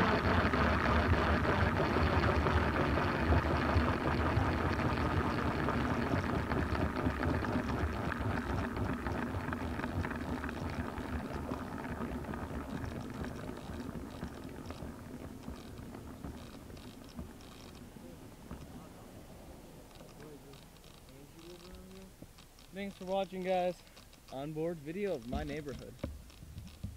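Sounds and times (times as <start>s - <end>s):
rc helicopter rotor winding down: 0.0s - 26.9s
faint ticks: 3.4s - 18.9s, 19.8s - 26.9s.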